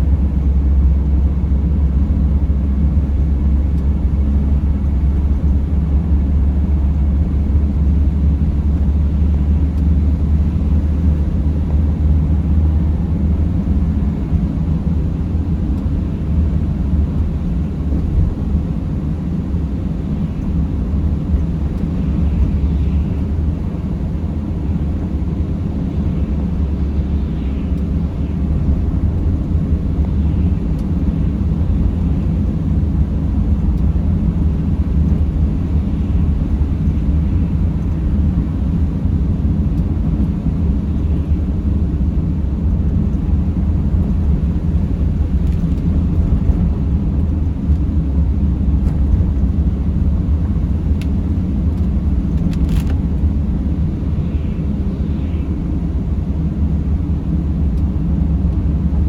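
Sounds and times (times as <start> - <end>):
van engine and tyre rumble: 0.0 - 59.0.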